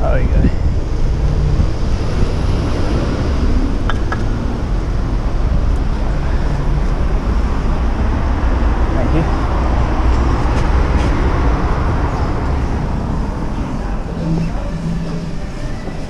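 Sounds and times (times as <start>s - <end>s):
wind rumbling on microphone: 0.0s - 15.6s
street traffic noise: 0.0s - 16.0s.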